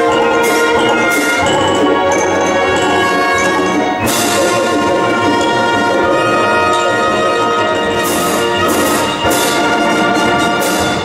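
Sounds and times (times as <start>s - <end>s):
low brass notes: 0.0s - 11.0s
sharp percussion strokes: 0.0s - 11.0s
wind orchestra holding a chord: 0.0s - 11.0s.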